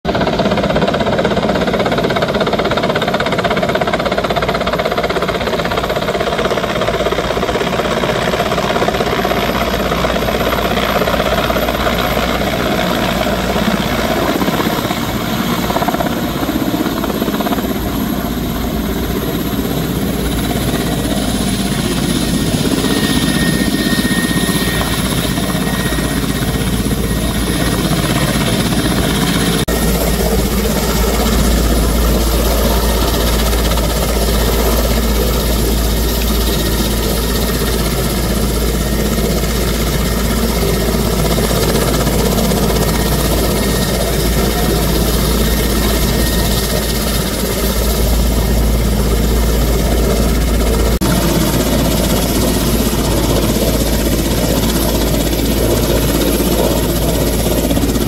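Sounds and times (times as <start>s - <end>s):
helicopter engines and rotors: 0.1s - 58.0s.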